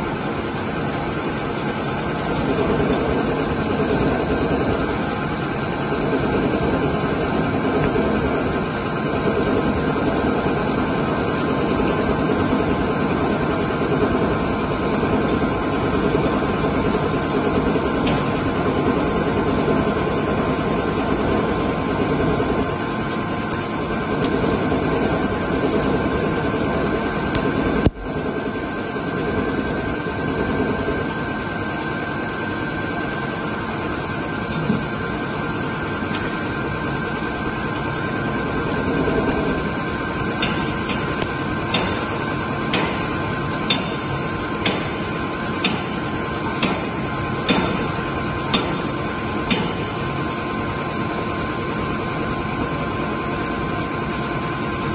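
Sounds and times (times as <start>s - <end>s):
lathe spindle running: 0.0s - 54.9s.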